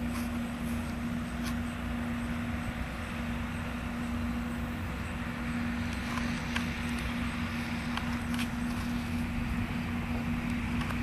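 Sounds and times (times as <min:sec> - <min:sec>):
harvester and tractor engines droning: 0:00.0 - 0:11.0.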